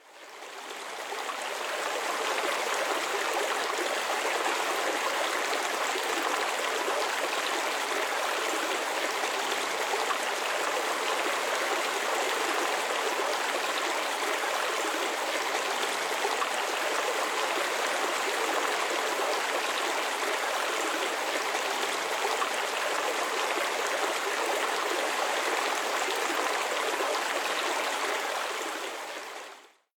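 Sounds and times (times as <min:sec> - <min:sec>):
brook water babbling over rocks: 0:00.0 - 0:29.8.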